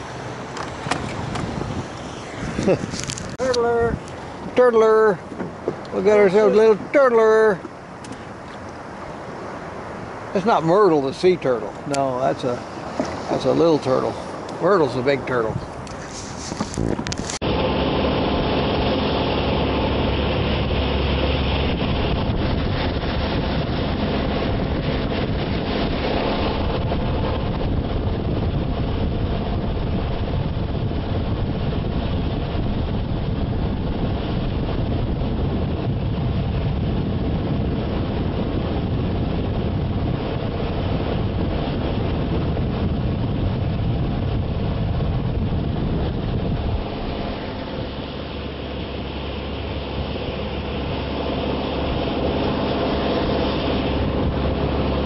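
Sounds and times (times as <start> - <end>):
outboard motor drone: 0.0 - 55.0
rushing water: 0.0 - 55.0
wind on microphone: 0.0 - 55.0.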